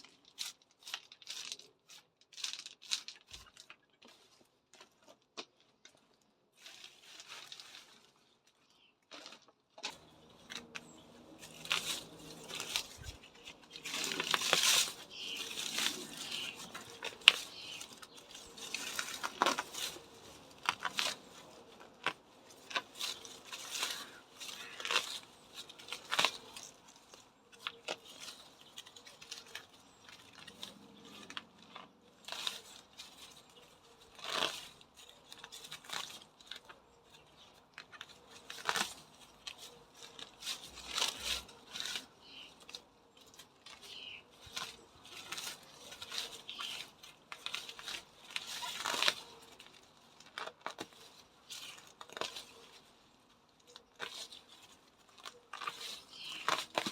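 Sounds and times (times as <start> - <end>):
leaves and stems rustling: 0.0 - 5.2, 6.0 - 56.9.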